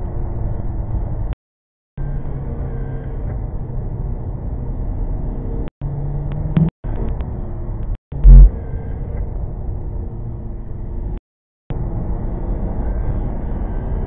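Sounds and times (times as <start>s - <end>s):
car engine and tyres droning: 0.0s - 1.4s, 2.0s - 14.0s.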